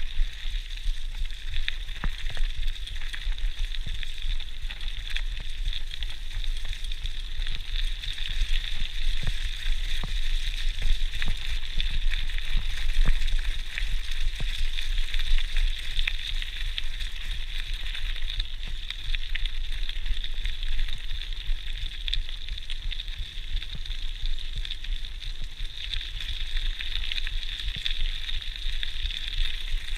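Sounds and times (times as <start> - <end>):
bike tyres rolling on gravel: 0.0 - 29.9
wind rumble on microphone: 0.0 - 29.9.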